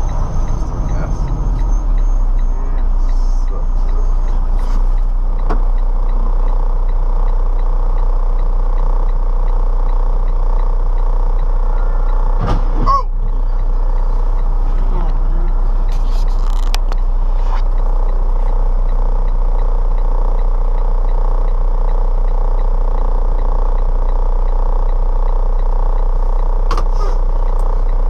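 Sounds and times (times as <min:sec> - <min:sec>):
vehicle cabin drone: 0:00.0 - 0:28.0.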